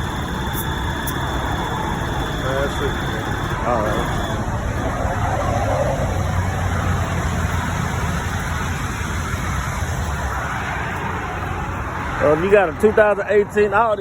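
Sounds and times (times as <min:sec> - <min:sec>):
motor vehicle rumble: 0:00.0 - 0:13.9.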